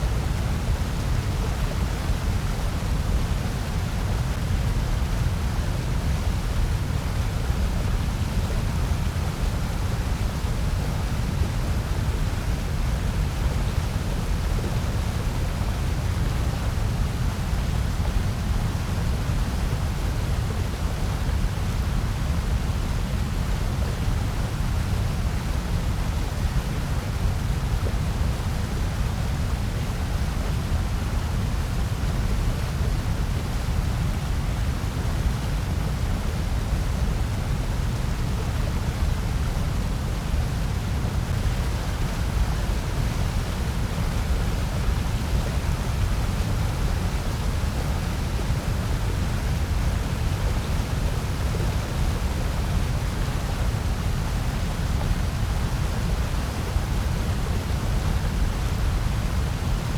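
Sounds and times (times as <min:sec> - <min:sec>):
white noise hiss with low rumble: 0:00.0 - 0:59.9.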